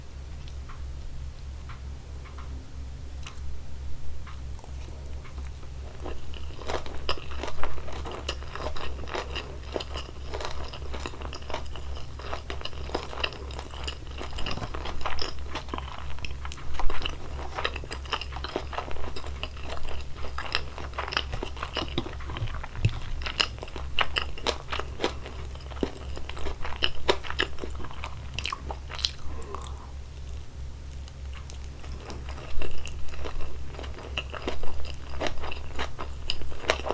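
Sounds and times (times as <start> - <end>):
steady low hum: 0.0 - 36.9
close chewing and biting: 4.6 - 36.9.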